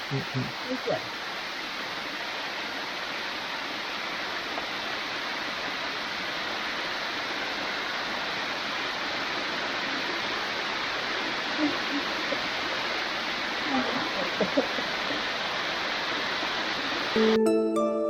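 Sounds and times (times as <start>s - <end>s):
waterfall rushing: 0.1s - 18.0s.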